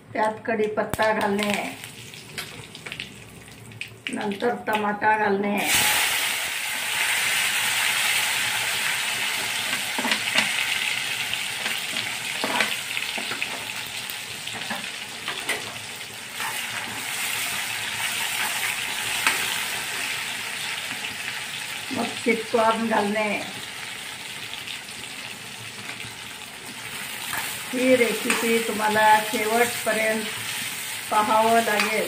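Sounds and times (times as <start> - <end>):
tomatoes sizzling in hot oil: 0.9 - 4.8, 5.6 - 32.0.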